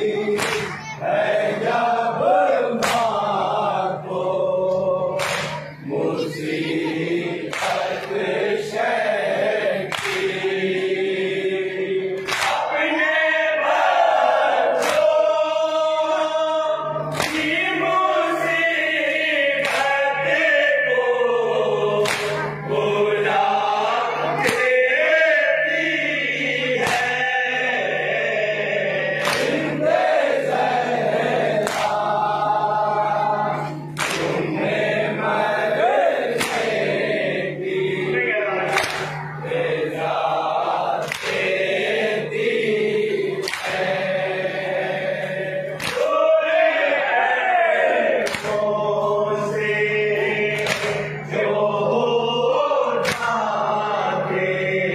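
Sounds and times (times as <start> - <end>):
men chanting in chorus: 0.0 - 54.9.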